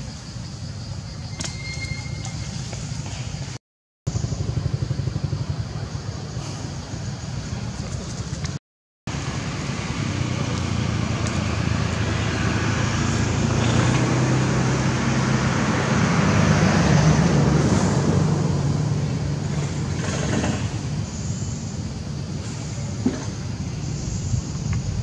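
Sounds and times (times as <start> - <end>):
vehicle engine humming: 2.7 - 25.0.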